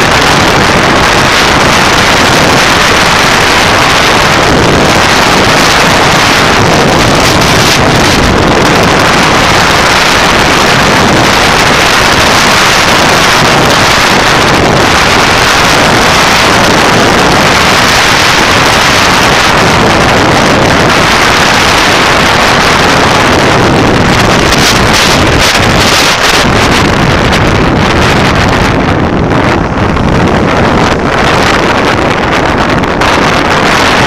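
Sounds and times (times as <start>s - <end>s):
motorcycle engine and road noise: 0.0s - 34.0s
wind rush over microphone: 0.0s - 34.0s.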